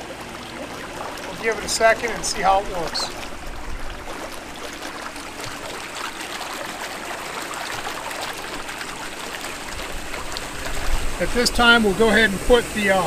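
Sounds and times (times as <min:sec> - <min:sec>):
hot tub water churning and bubbling: 0:00.0 - 0:13.0.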